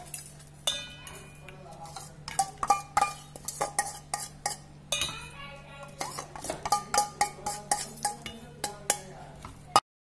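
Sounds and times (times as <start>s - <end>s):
spoon clinking against steel bowl: 0.0s - 9.8s.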